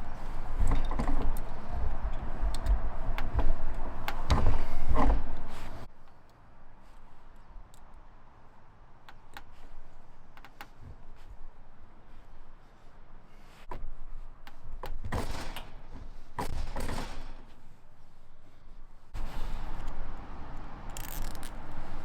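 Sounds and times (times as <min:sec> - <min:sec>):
wires and tools rustling: 0:00.0 - 0:22.0.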